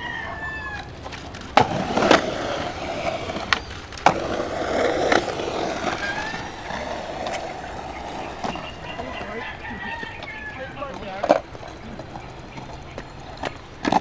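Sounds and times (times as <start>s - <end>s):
skateboard wheels rolling: 0.0s - 14.0s
skateboard clacking on concrete: 0.6s - 14.0s.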